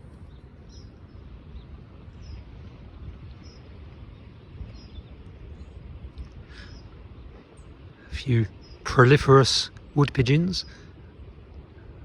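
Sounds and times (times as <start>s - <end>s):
steady low rumble: 0.0s - 12.0s
small bird high calls: 0.2s - 2.6s, 3.2s - 11.2s.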